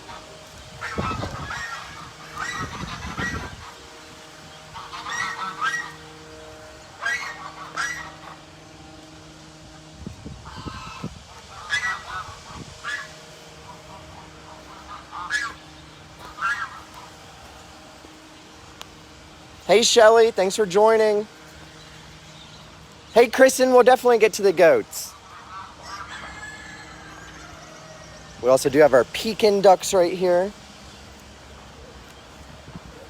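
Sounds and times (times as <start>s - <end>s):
waterfowl calling: 0.0s - 8.8s, 10.4s - 30.8s.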